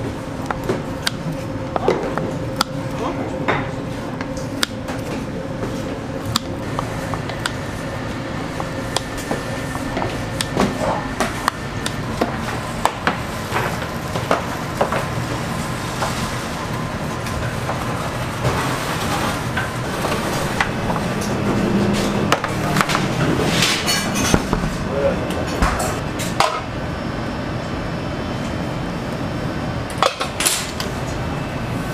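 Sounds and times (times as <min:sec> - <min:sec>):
steady background hum: 0:00.0 - 0:31.9.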